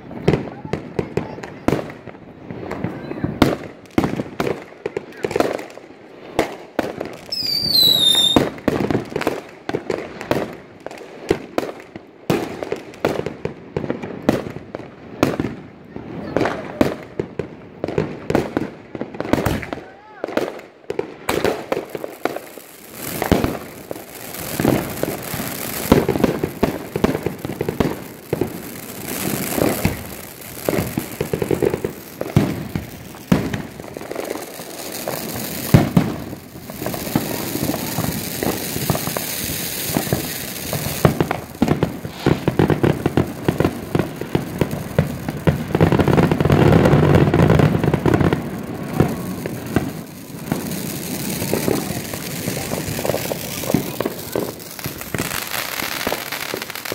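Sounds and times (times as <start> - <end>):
fireworks bangs pops and crackling: 0.0 - 56.9.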